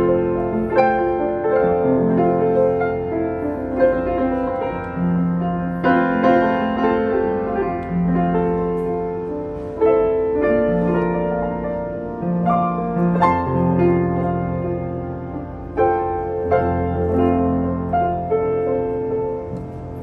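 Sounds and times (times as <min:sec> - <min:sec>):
upright piano playing slow piece: 0:00.0 - 0:20.0.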